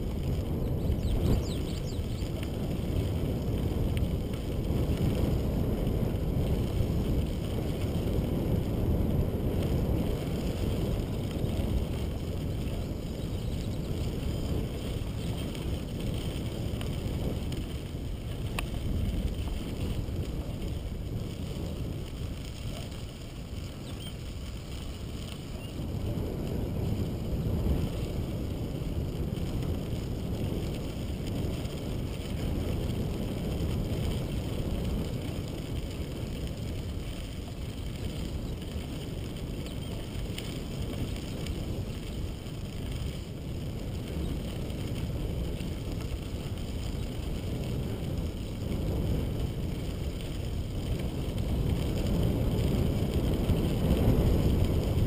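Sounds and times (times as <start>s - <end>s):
bicycle tyres rolling on gravel: 0.0s - 55.0s
wind buffeting microphone: 0.0s - 55.0s.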